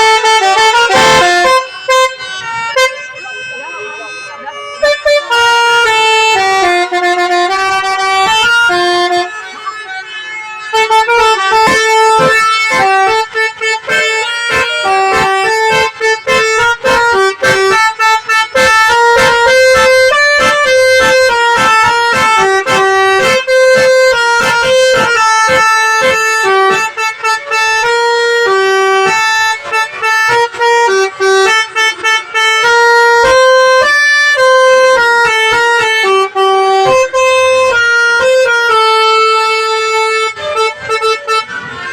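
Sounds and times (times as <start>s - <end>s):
multi-tone bus horn melody: 0.0s - 41.9s.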